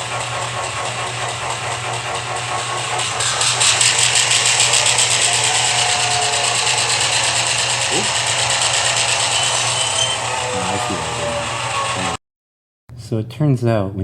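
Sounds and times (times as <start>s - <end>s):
harsh high rattle: 0.0s - 12.2s
model locomotive diesel engine sound: 0.0s - 12.2s.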